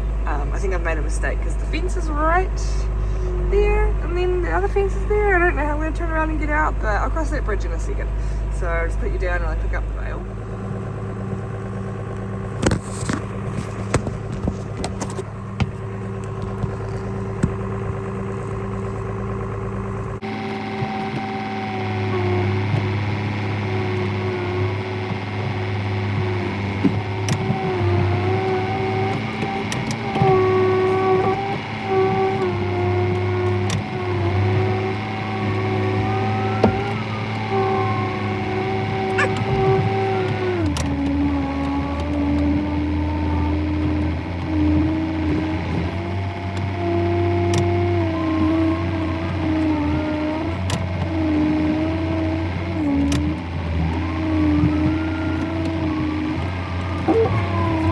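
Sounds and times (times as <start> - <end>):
farm vehicle engine idling: 0.0 - 57.9
steady whine: 0.0 - 57.9.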